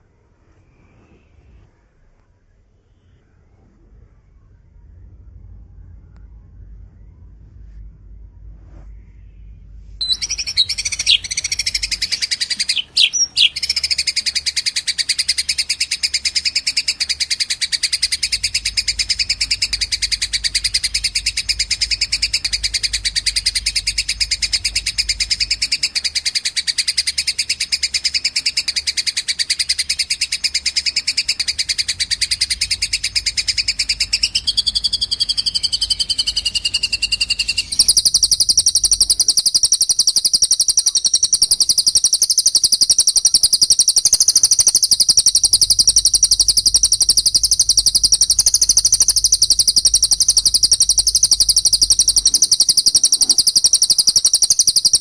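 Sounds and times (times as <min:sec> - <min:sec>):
faint low hum: 0:00.0 - 0:55.0
sharp bird chips: 0:10.0 - 0:55.0
songbird chattering trill: 0:10.0 - 0:55.0.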